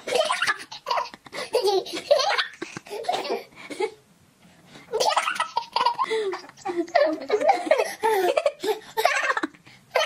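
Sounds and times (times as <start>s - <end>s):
baby laughing: 0.0s - 3.5s, 4.9s - 10.0s.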